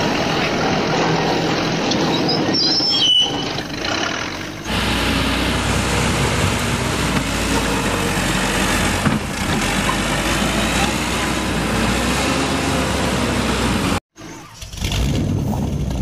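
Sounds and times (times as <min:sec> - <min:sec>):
diesel engine running low: 0:00.0 - 0:16.0
rough noisy rumble: 0:00.0 - 0:16.0.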